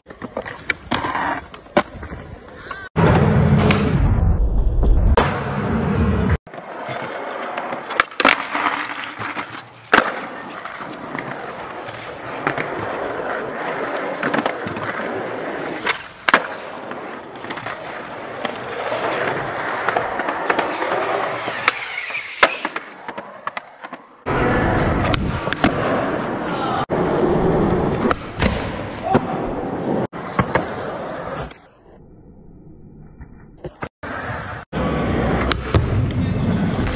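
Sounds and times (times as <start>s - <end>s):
skateboard wheels rolling on concrete: 0.0s - 3.9s, 5.2s - 36.9s.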